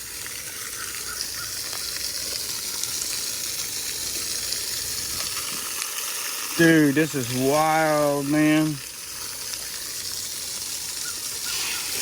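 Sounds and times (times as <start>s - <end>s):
high-pressure water spraying: 0.0s - 12.0s.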